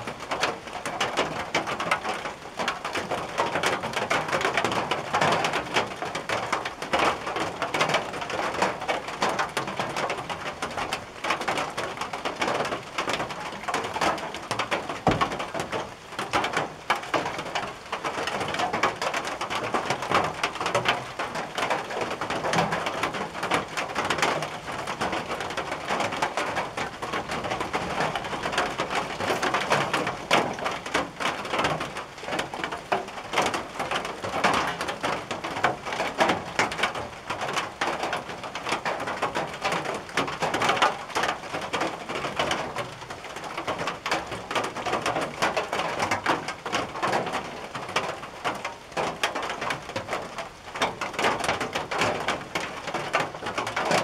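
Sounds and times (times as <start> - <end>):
rain on a tin roof: 0.0 - 54.0.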